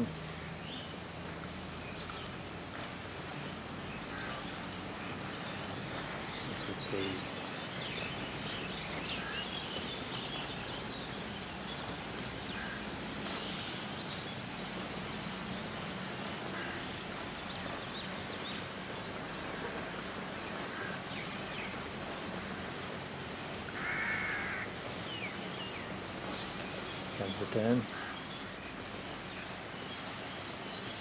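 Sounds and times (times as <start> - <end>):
steady outdoor hiss: 0.0 - 31.0.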